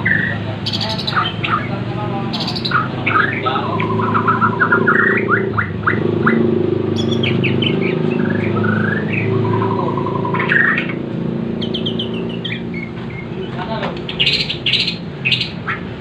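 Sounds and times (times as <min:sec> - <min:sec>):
bird singing rapid phrases: 0:00.0 - 0:16.0.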